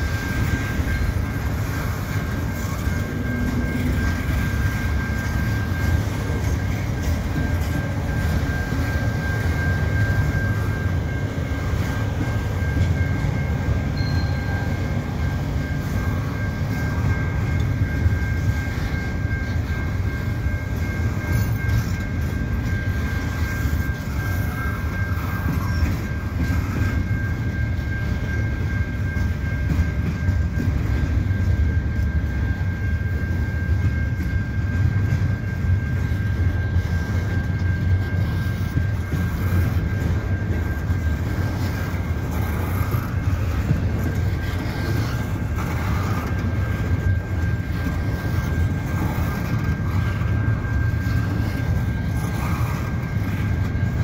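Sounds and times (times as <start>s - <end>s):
level-crossing warning bell: 0.0s - 54.0s
train wheels rumbling on rails: 0.0s - 54.0s.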